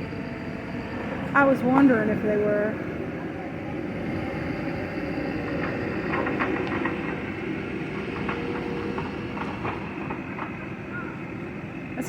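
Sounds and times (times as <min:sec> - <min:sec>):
loader engine rumbling with whine: 0:00.0 - 0:12.0.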